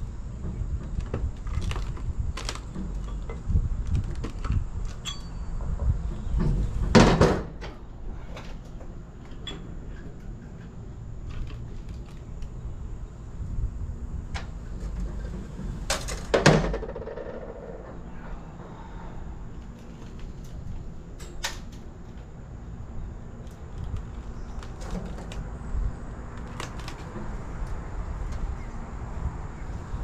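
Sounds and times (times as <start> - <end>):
steady low rumble: 0.0 - 7.0, 9.8 - 30.0.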